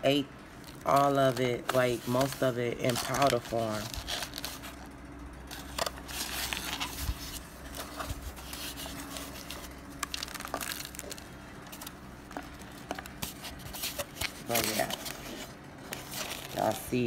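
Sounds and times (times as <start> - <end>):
cardboard rustling: 0.6 - 4.9, 5.5 - 17.0.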